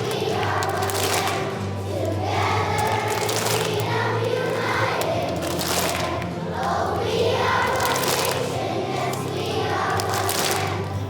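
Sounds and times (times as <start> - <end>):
children's choir singing: 0.0 - 11.0
musical accompaniment: 0.0 - 11.0.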